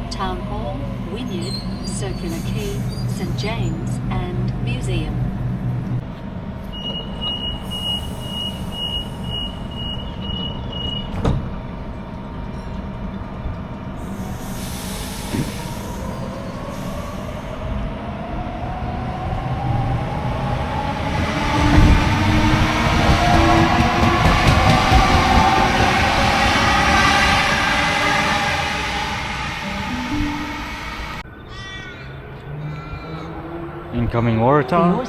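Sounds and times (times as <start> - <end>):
train rumble: 0.0 - 31.2.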